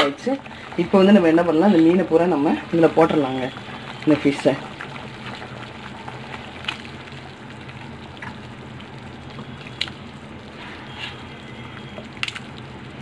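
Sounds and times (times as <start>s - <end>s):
gravy boiling and bubbling: 0.0s - 13.0s.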